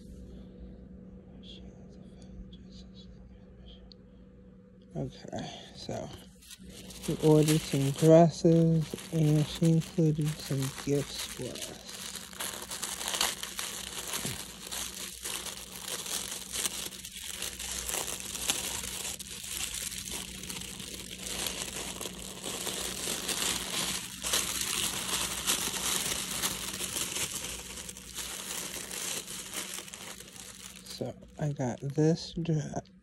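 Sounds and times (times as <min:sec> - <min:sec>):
metallic wrapping paper crinkling: 0:05.8 - 0:32.3.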